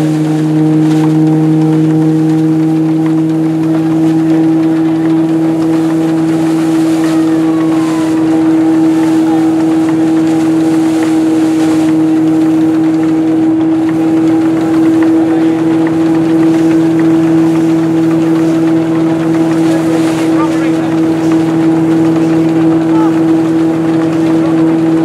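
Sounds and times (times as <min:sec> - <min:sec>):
threshing machine droning hum: 0:00.0 - 0:25.0.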